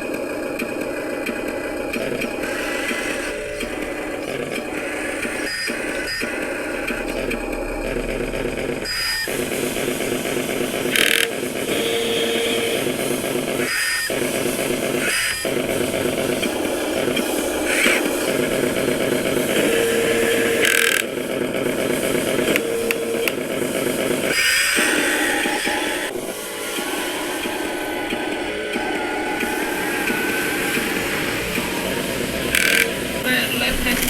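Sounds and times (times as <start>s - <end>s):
toy truck mechanical whirring: 0.0s - 34.0s.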